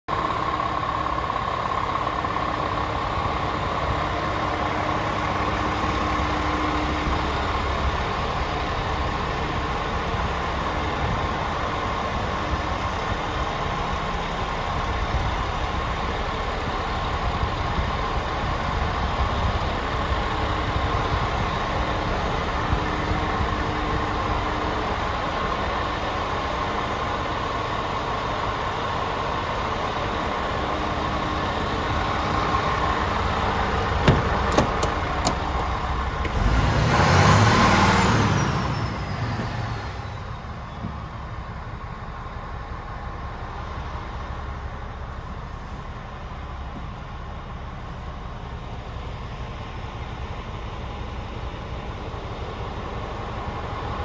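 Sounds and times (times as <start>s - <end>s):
diesel truck engine idling: 0.1s - 54.0s.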